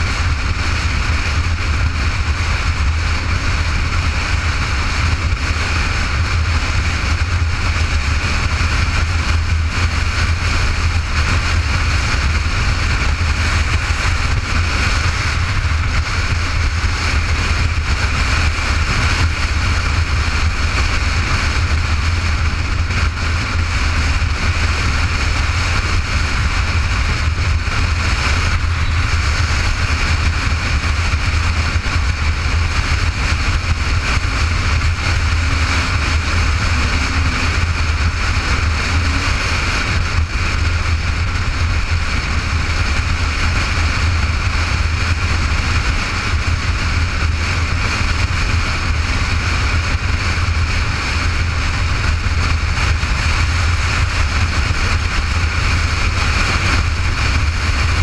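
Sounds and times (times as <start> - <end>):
wind rushing: 0.0 - 54.7
motorcycle engine and road drone: 0.0 - 58.0.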